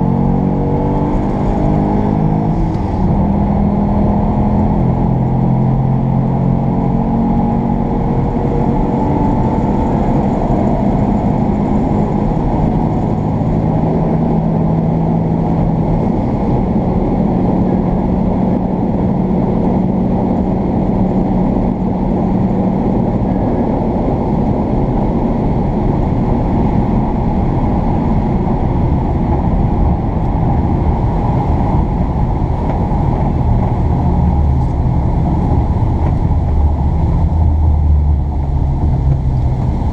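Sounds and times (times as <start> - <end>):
motor vehicle engine rumble: 0.0 - 39.9.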